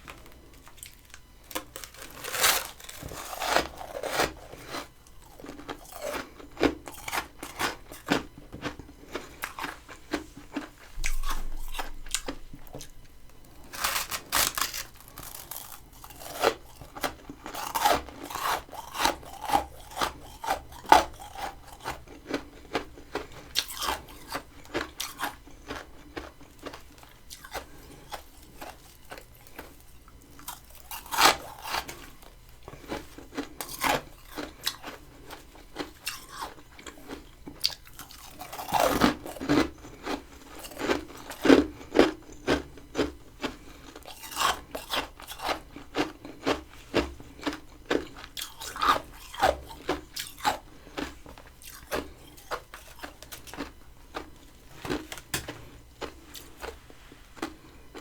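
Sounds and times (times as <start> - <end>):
crunching and chewing frost: 0.0 - 58.0.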